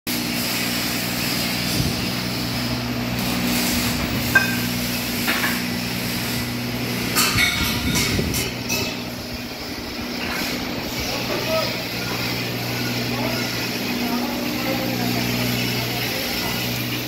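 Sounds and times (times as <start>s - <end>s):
low machine hum: 0.1s - 17.0s
steel tubes clanking: 3.2s - 17.0s.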